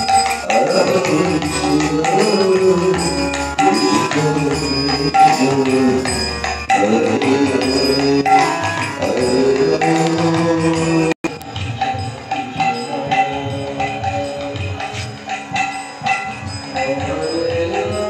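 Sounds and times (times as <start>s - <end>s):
devotional melody: 0.0s - 18.0s
drum: 0.0s - 18.0s
jingling percussion: 0.0s - 18.0s.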